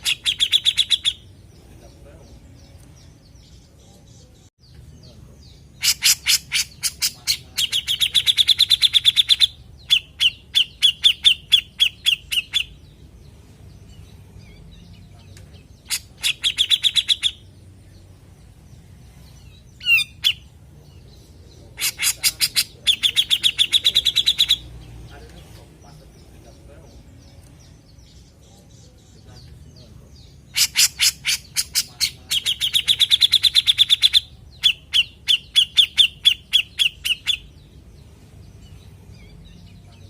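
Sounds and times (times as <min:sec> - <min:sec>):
bulbul singing chattering trill: 0:00.0 - 0:40.0.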